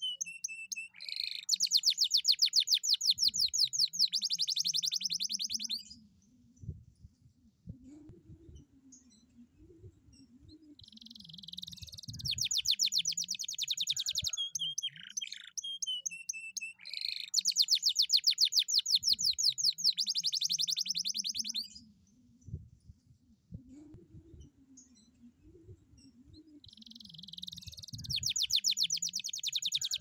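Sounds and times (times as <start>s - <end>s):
canary singing with rapid trills: 0.0s - 6.0s, 8.5s - 22.1s, 24.3s - 30.0s.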